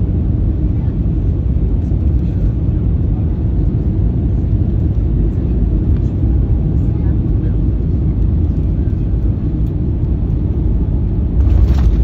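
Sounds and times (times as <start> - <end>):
airliner engine and airflow rumble: 0.0 - 12.0.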